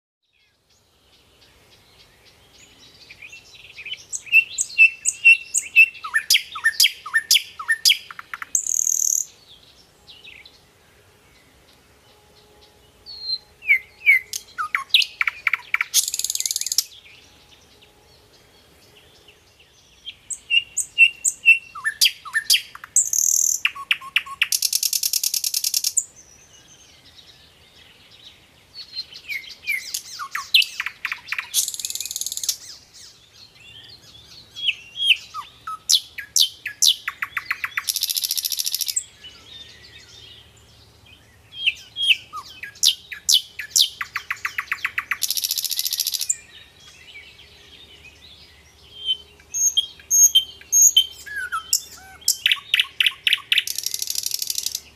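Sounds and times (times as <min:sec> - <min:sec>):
songbird singing: 0:00.2 - 0:54.9.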